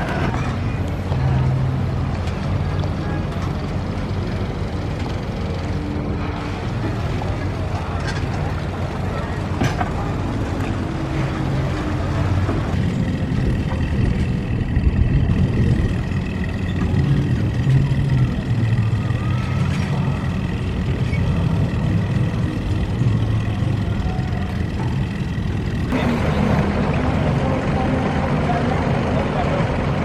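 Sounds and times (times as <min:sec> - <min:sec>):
boat engine low throb: 0:00.0 - 0:30.0.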